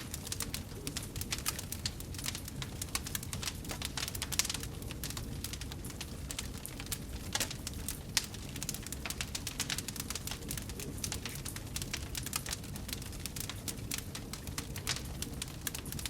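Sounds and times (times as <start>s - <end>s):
low rumble of flame: 0.0s - 16.0s
wood fire crackling and popping: 0.0s - 16.0s.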